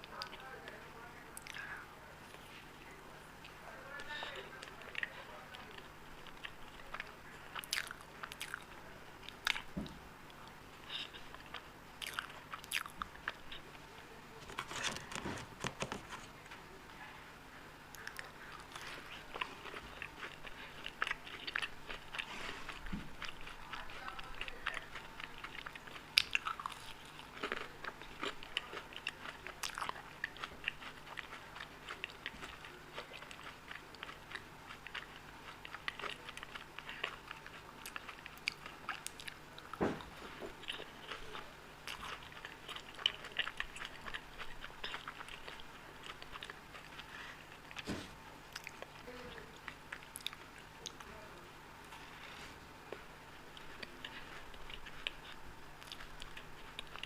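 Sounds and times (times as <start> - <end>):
person chewing: 3.4 - 16.4, 17.9 - 51.1, 51.8 - 57.0.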